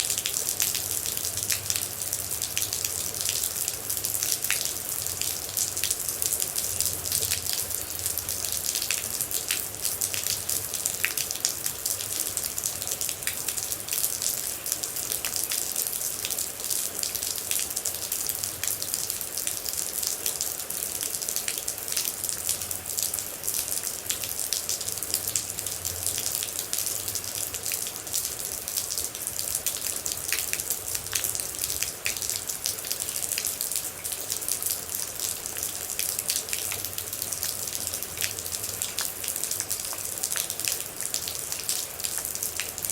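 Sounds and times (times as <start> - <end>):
raindrops ticking on a surface: 0.0 - 42.9
steady rain: 0.0 - 42.9.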